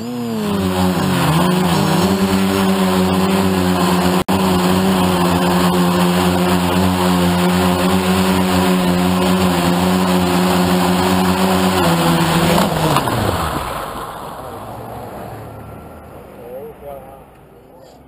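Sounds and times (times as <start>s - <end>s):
quadcopter motors humming: 0.0s - 15.8s.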